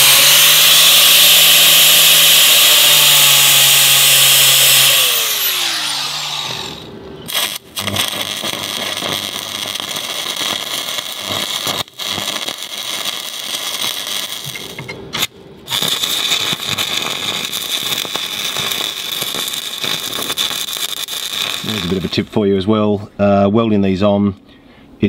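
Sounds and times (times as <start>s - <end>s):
welding arc crackling and sizzling: 0.0s - 22.6s.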